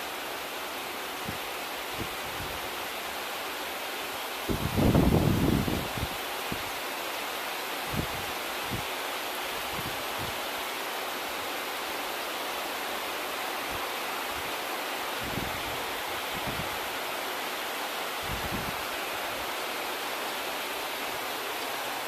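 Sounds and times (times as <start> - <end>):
heavy rain on leaves: 0.0 - 22.0.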